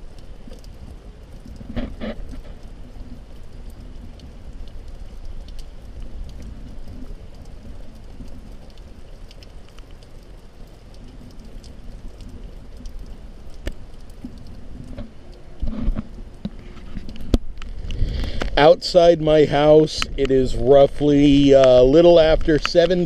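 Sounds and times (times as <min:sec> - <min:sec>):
raindrops ticking: 0:00.0 - 0:23.0.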